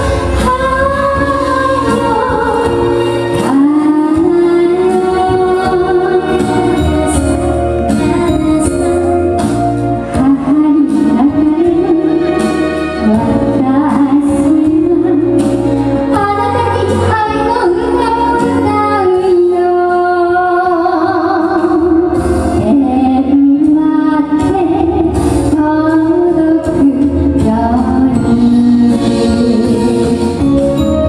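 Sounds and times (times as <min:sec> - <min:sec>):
instrumental accompaniment: 0:00.0 - 0:31.0
woman singing into a microphone: 0:00.0 - 0:31.0.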